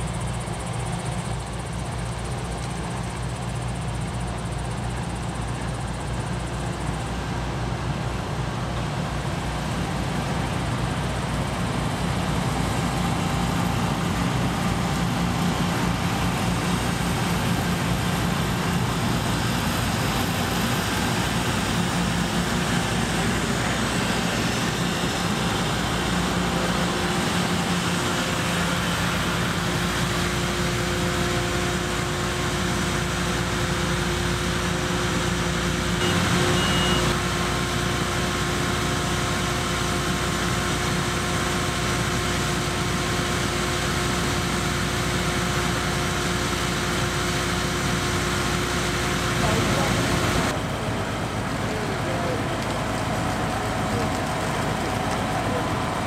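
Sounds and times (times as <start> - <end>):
faint steady whine: 0.0 - 52.7
combine harvester engine and threshing: 0.0 - 56.0.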